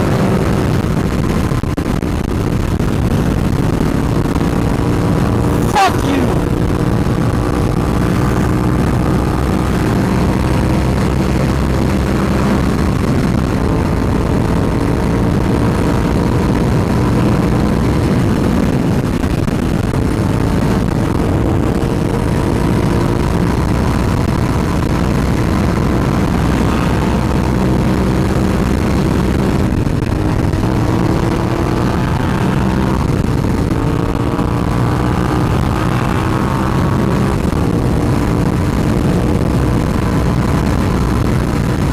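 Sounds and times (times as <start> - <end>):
motorcycle engine cruising: 0.0 - 41.9
wind and road noise: 0.0 - 41.9.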